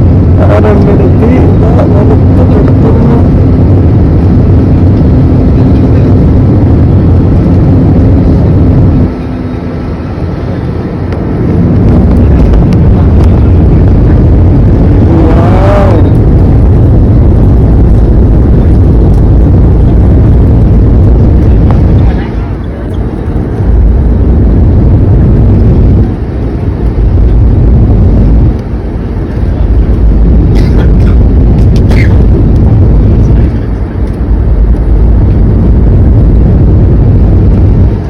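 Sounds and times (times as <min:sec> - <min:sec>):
jet engines rumbling in cabin: 0:00.0 - 0:38.0.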